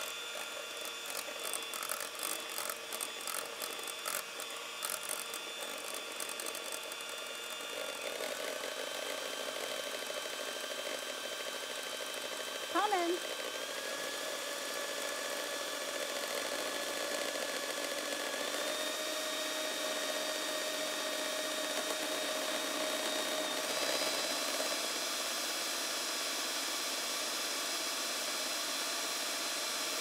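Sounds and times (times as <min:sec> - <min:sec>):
beaters whipping cream in metal bowl: 0:00.0 - 0:30.0
electric hand mixer whine: 0:00.0 - 0:30.0.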